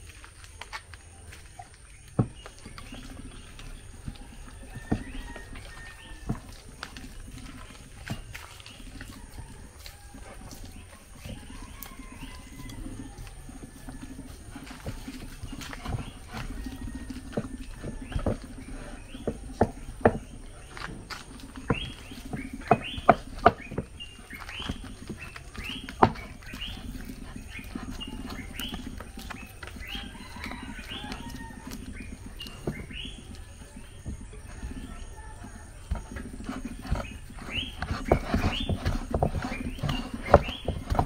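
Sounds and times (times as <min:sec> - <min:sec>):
dough squelching and slapping: 0:00.0 - 0:41.0.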